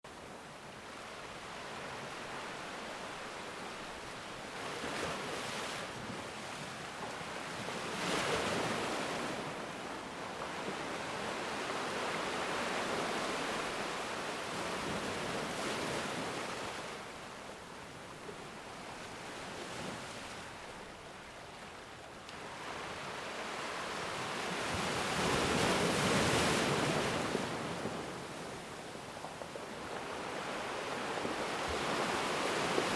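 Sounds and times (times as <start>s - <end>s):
sea waves breaking on shore: 0.1s - 32.9s.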